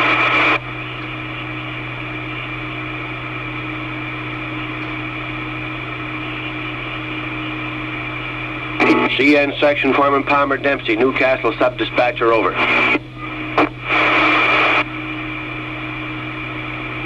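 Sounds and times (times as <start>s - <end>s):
radio static hiss and hum: 0.0s - 17.0s.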